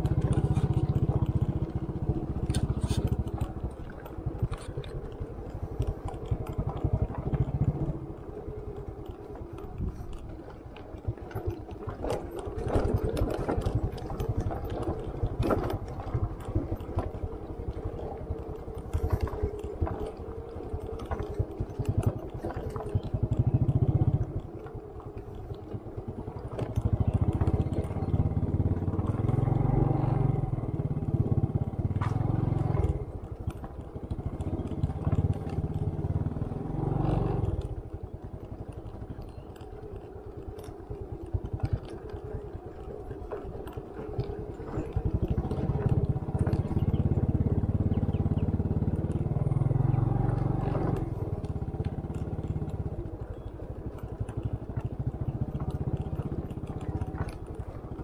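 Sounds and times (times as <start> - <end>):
small motorcycle running: 0.0 - 58.0.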